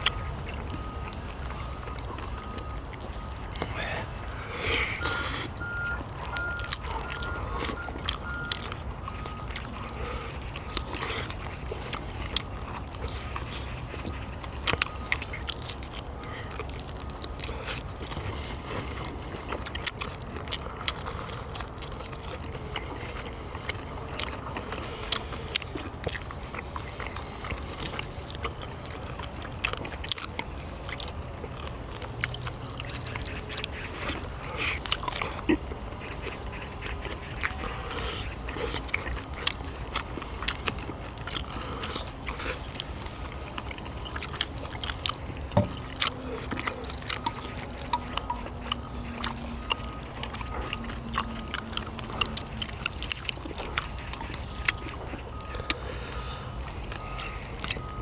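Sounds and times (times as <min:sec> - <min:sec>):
chewing sounds: 0:00.0 - 0:58.0
low background rumble: 0:00.0 - 0:58.0.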